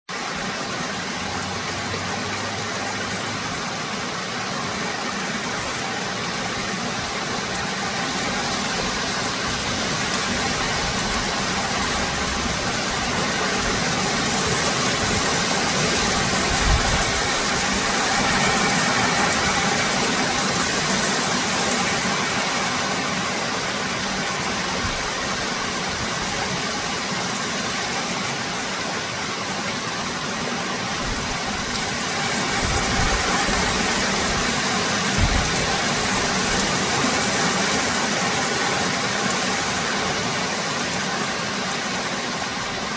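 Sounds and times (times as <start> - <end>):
steady rain falling: 0.1 - 42.9.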